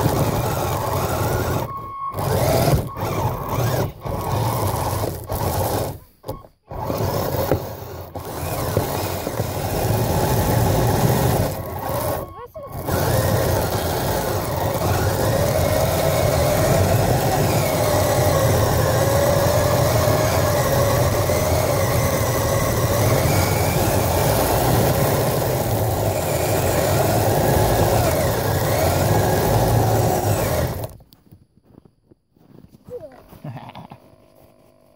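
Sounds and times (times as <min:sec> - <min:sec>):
rumble of drive and tracks: 0:00.0 - 0:31.0
electric motor whining: 0:00.0 - 0:31.1.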